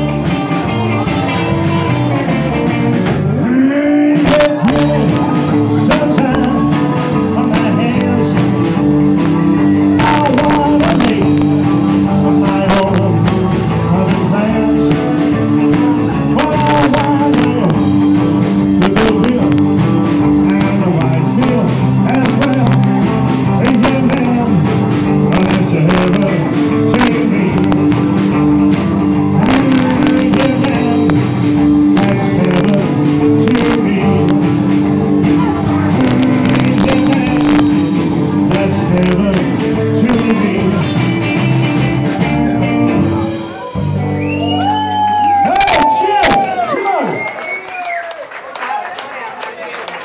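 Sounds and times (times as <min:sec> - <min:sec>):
rock band playing live: 0:00.0 - 0:47.9
guitar: 0:00.0 - 0:48.2.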